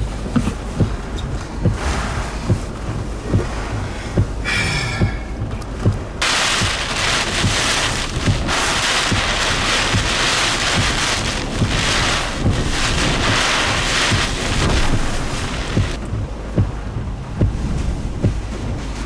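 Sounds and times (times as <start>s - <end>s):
wind buffeting microphone: 0.0s - 19.0s
wind driving heavy rain: 0.0s - 19.0s.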